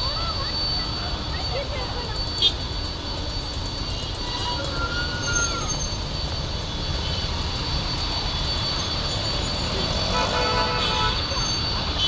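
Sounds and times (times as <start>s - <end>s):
jet engine whine: 0.0s - 12.0s
jet engines rumbling: 0.0s - 12.0s.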